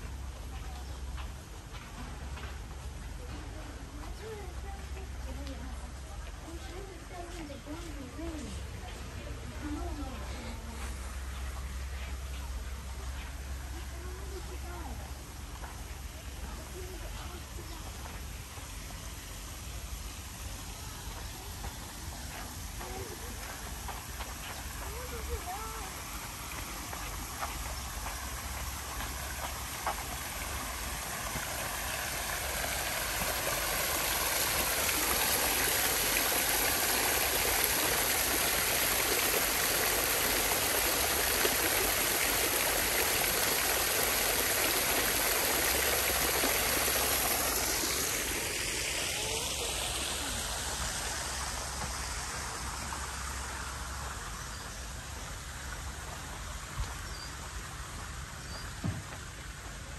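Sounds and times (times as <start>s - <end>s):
fountain splashing and trickling: 0.0s - 59.9s.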